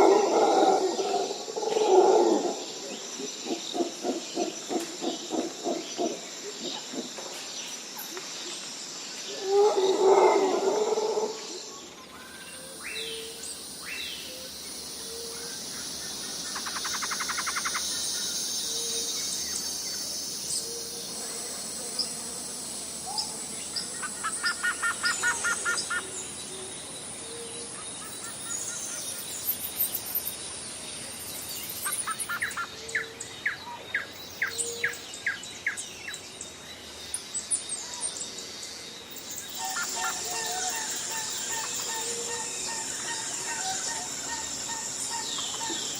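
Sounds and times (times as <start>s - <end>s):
birds calling and chirping: 0.0s - 45.9s
insect drone: 0.0s - 45.9s.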